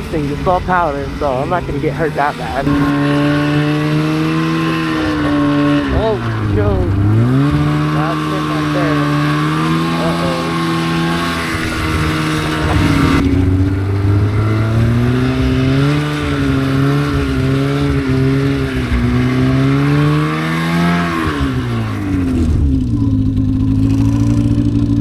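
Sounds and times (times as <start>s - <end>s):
snowmobile engine idling: 0.0s - 25.0s
snowmobile engine revving: 0.0s - 25.0s.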